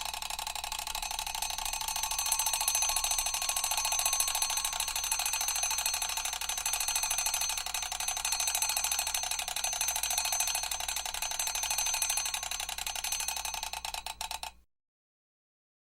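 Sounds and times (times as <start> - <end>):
alarm clock bell ringing: 0.0 - 14.6.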